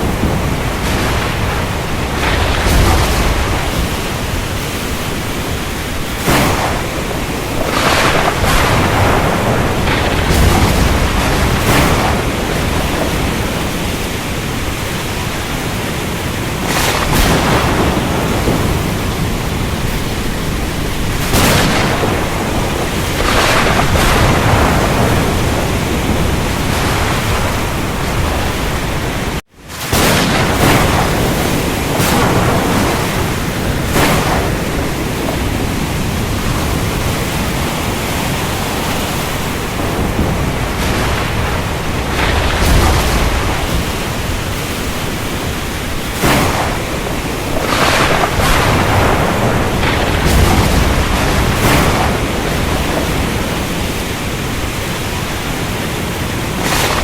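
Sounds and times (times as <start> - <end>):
rain: 0.0 - 57.0
surf: 0.0 - 57.0.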